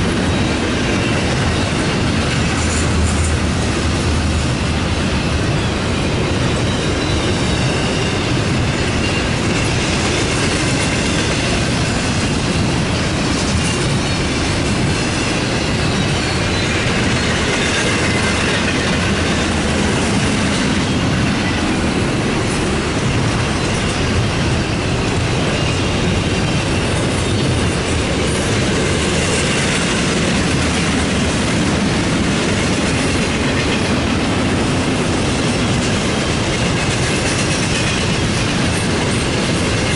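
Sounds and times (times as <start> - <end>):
freight train wheels rolling on rails: 0.0 - 39.9.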